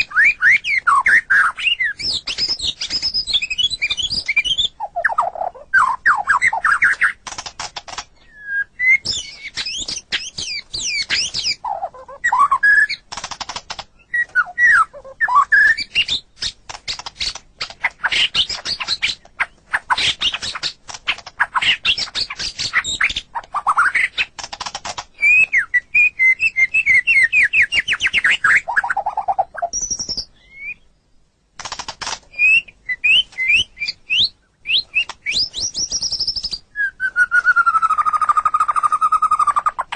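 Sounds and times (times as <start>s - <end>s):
bird singing whistles and trills: 0.0s - 7.2s, 8.2s - 13.0s, 14.0s - 24.3s, 25.1s - 31.0s, 32.3s - 39.9s.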